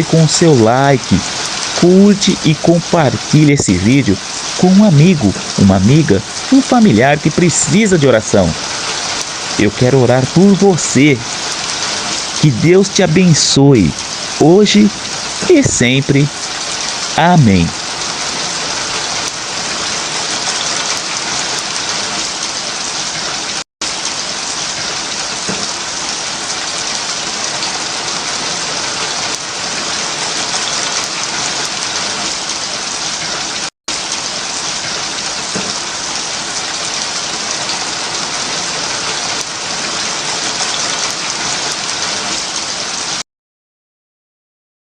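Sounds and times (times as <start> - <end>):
steady rain: 0.0 - 43.2.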